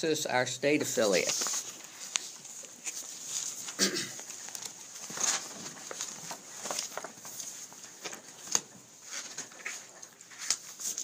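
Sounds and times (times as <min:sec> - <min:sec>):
papers rustling and shuffling: 0:00.8 - 0:11.0.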